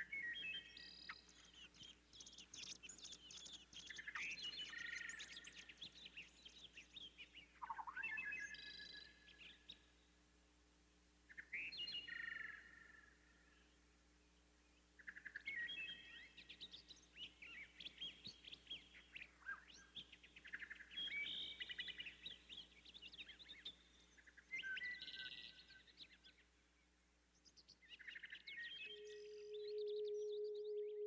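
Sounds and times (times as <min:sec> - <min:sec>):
small birds chirping and trilling: 0:00.0 - 0:10.0, 0:11.3 - 0:31.0.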